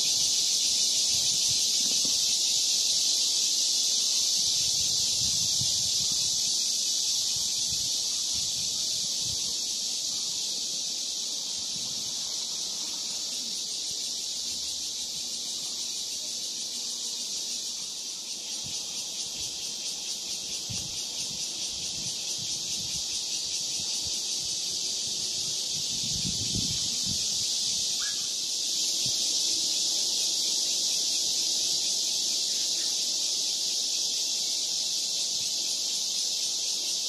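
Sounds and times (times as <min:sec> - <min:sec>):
cicadas buzzing: 0:00.0 - 0:37.0.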